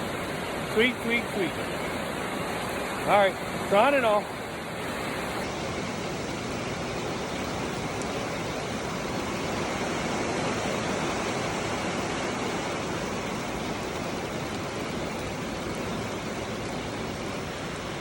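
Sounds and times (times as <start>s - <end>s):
heavy rain on a roof: 0.0s - 18.0s.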